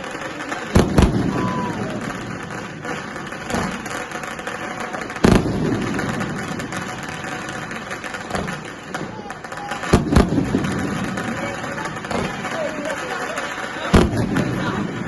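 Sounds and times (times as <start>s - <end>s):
rumbling echo: 0.0s - 13.0s
fireworks bangs: 0.0s - 15.0s.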